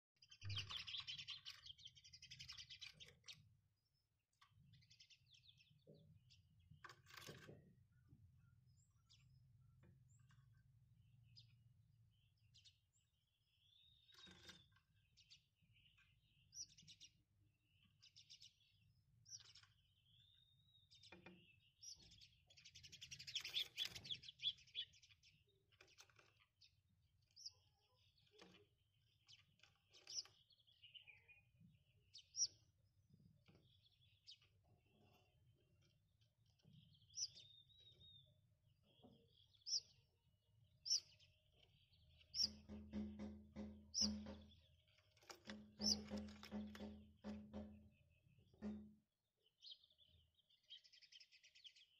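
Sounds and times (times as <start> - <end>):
sparrows chirping: 0.2 - 51.9.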